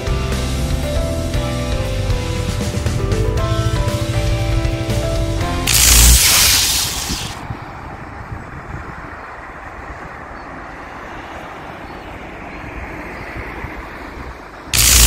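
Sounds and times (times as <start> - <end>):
highway traffic rushing: 1.0 - 15.0.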